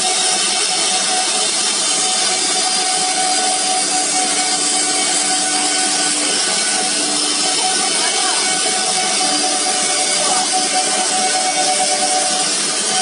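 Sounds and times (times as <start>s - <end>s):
low machine tone: 0.0s - 13.0s
router bit cutting board: 0.0s - 13.0s
router spindle whine: 0.0s - 13.0s.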